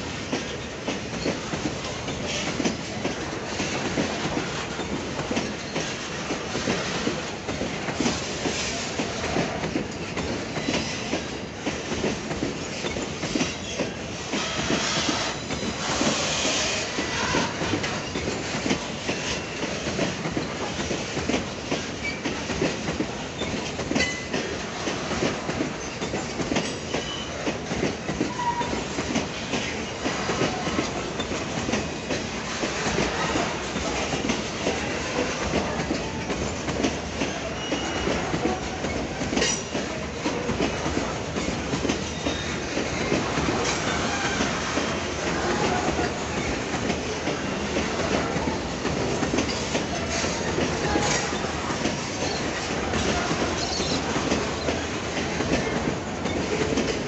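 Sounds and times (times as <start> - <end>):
train wheels clattering over rail joints: 0.0 - 57.0.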